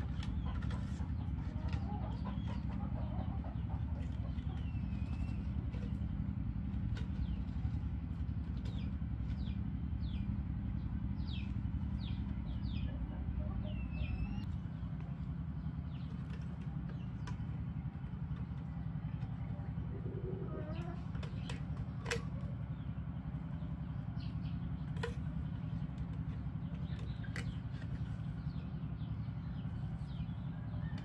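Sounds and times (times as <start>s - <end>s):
low engine-like drone: 0.0s - 31.0s
small birds chirping: 0.0s - 31.0s.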